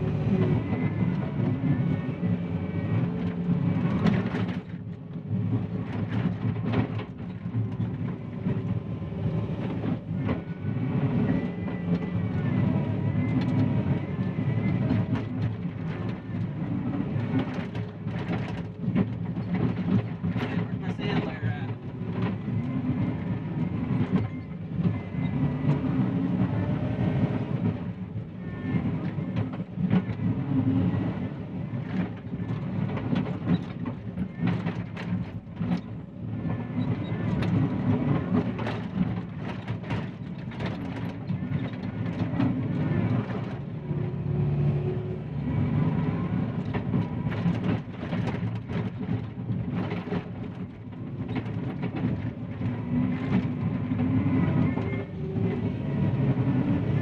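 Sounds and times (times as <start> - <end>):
diesel engine running under load: 0.0 - 57.0
bucket and tracks clanking: 3.0 - 57.0.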